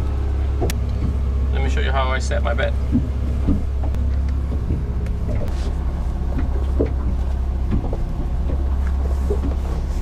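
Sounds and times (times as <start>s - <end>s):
steady low hum: 0.0s - 10.0s
waves knocking against boat hull: 0.0s - 10.0s.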